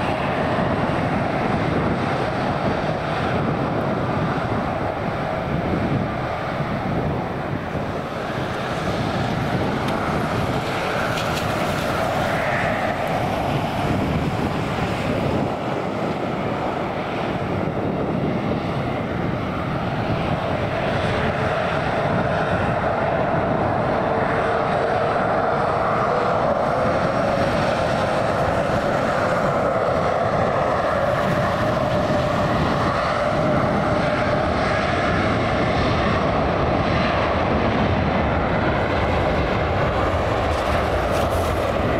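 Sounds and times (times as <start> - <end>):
airliner engines roaring: 0.0 - 41.9.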